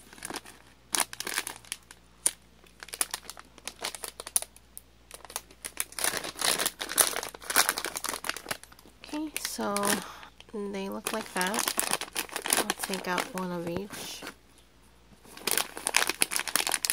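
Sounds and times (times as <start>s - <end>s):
candy wrapper crinkling: 0.0s - 14.4s, 15.2s - 16.9s.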